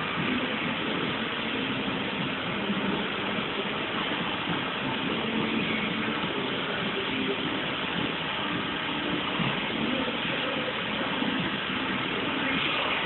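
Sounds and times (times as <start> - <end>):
faint hum: 0.0 - 13.0
steady mechanical noise: 0.0 - 13.0.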